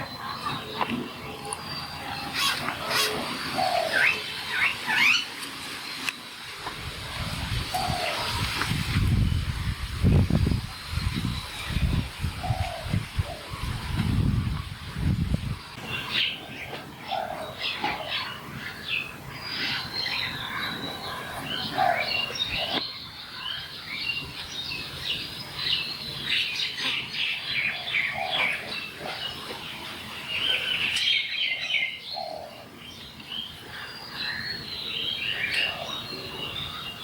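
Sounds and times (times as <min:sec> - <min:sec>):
birds chirping and twittering: 0:00.0 - 0:37.0.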